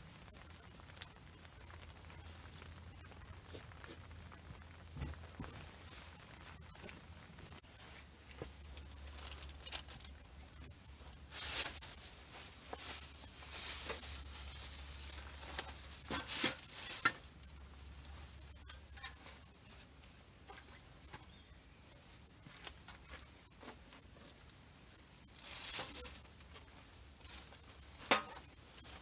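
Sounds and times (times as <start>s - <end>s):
rustling and handling: 0.2s - 29.0s.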